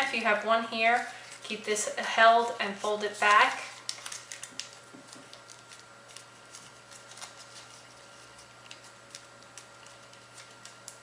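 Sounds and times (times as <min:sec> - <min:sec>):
paper being folded: 0:00.9 - 0:11.0.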